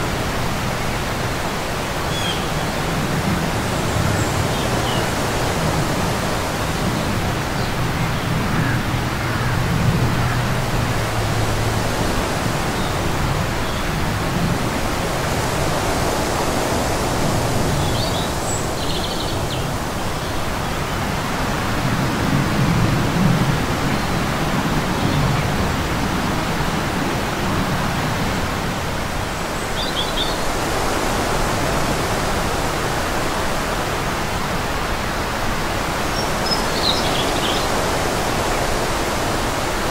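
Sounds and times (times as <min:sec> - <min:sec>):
wind blowing across microphone: 0:00.0 - 0:39.9.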